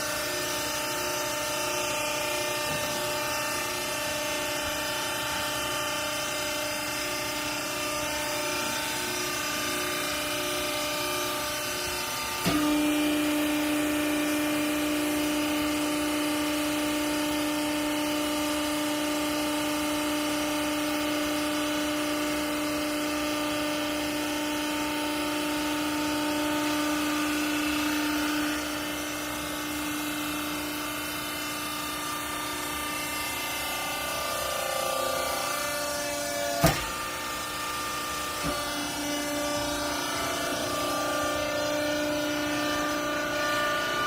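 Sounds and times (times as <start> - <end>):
hydraulic unit whining hum: 0.0 - 44.0
machine hum: 0.0 - 44.0.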